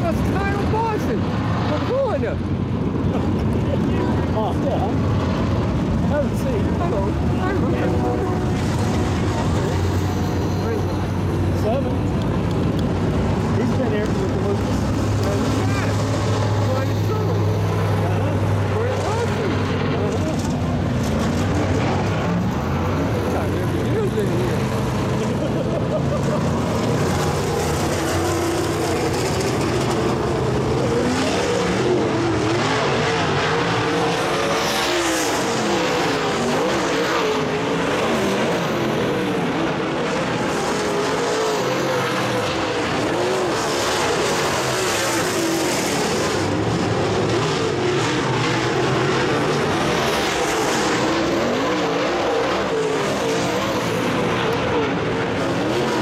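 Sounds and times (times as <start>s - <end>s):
race car engines: 0.0s - 56.0s.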